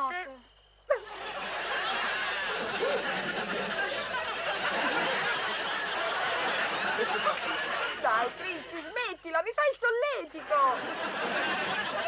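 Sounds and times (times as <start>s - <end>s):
studio audience laughing: 0.9s - 9.2s, 10.0s - 12.0s.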